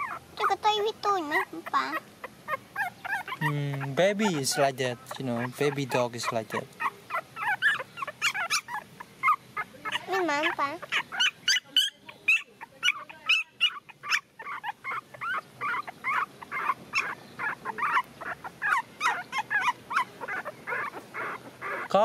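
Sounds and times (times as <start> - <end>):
puppies whimpering and yipping: 0.0 - 22.0.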